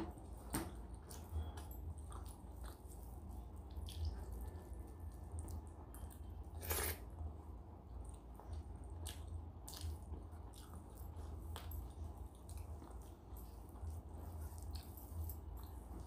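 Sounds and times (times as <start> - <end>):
low steady hum: 0.0 - 16.0
chewing: 0.9 - 6.5, 7.9 - 16.0.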